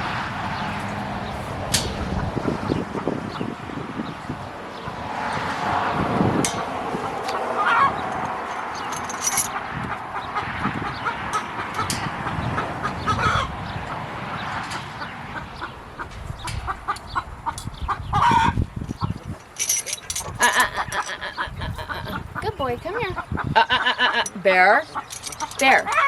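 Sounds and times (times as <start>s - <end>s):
chickens clucking: 0.5s - 4.2s, 4.8s - 26.0s.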